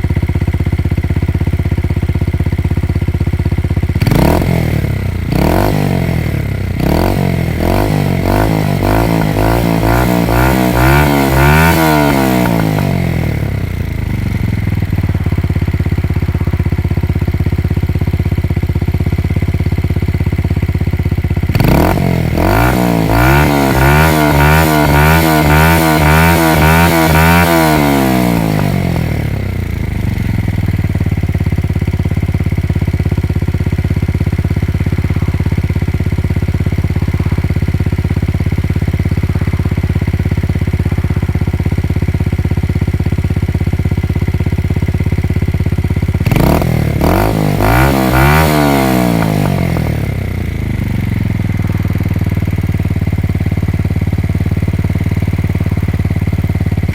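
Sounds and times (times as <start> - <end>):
motorcycle engine revving and idling: 0.0 - 56.9.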